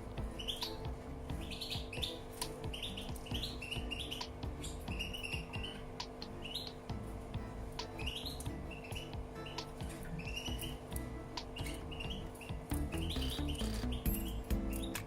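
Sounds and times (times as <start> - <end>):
canary chirping: 0.0 - 15.0
faint steady hum: 0.0 - 15.0.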